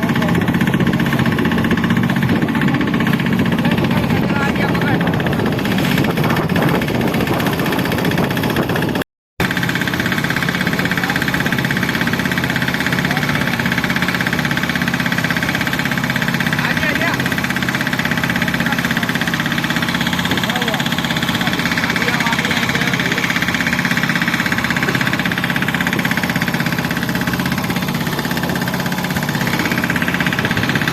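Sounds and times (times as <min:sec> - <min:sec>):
boat engine running: 0:00.0 - 0:30.9.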